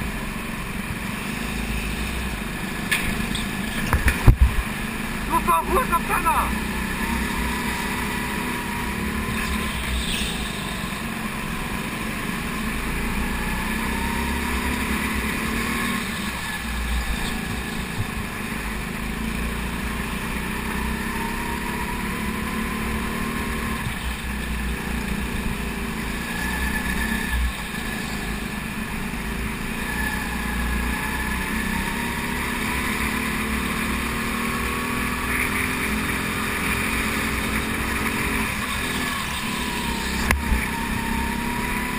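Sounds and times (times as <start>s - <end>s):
go-kart engine accelerating: 0.0s - 41.9s.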